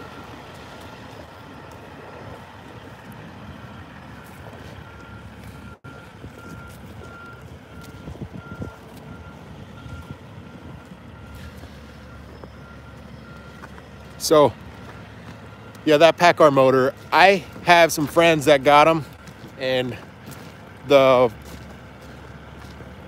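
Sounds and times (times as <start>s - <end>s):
diesel engine rumble: 0.0s - 23.0s
truck backup alarm beeping: 0.0s - 23.0s.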